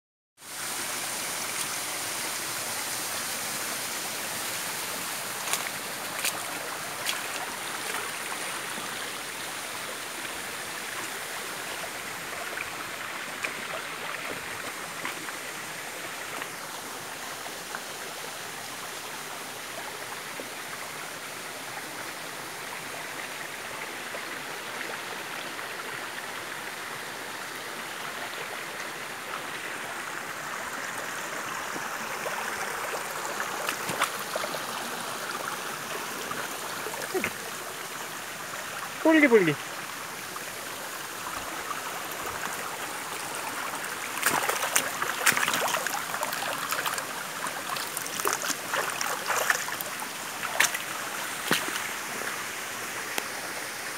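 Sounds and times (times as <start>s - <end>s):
stream trickling over stones: 0.4s - 53.9s.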